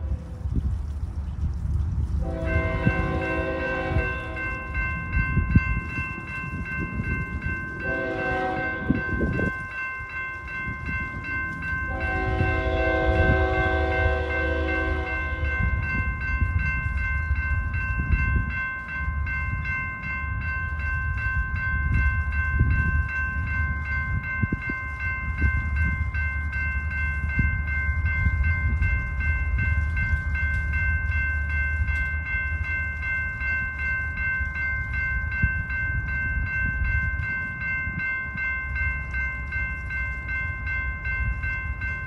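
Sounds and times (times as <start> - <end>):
diesel locomotives rumbling: 0.0 - 42.0
railroad crossing bell ringing: 1.8 - 42.0.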